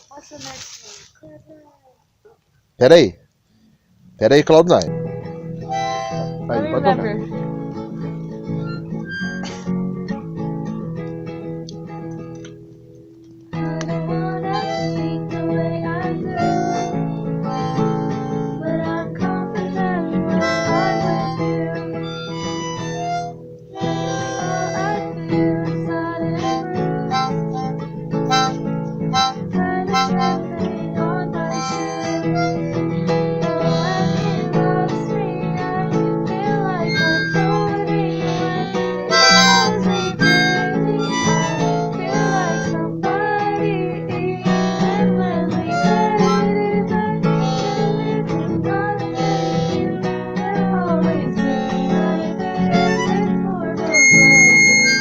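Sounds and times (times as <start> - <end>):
acoustic guitar: 0.0 - 55.0
harmonica melody: 4.8 - 12.5, 13.5 - 55.0.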